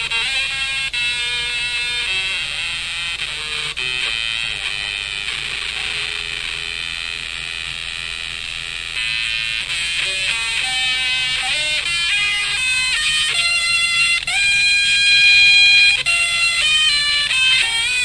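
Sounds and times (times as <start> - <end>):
buzzy synth-like electric guitar: 0.0 - 18.0.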